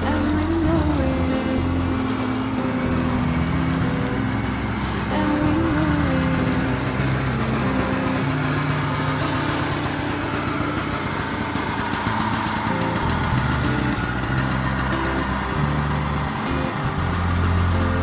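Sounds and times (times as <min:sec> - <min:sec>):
scooter engine idling: 0:00.0 - 0:18.0.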